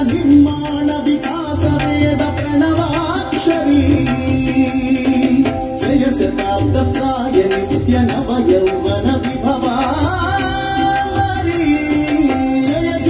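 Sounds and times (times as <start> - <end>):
tabla drumming: 0.0 - 13.0.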